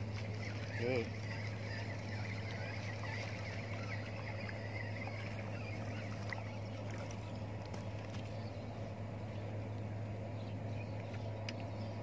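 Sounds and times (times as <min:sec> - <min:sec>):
low mechanical hum: 0:00.0 - 0:12.0
faint chirps and ticks: 0:00.1 - 0:08.6, 0:09.3 - 0:12.0.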